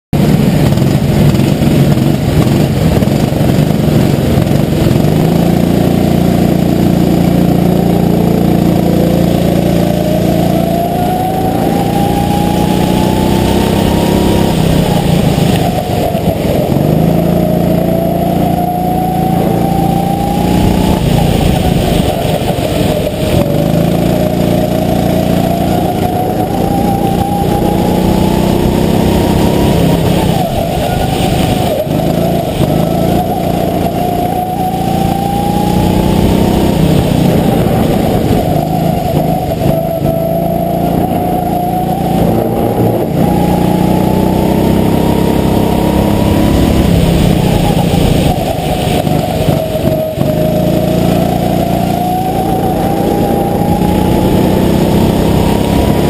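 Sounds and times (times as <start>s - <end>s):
kart engine accelerating: 0.2s - 56.0s.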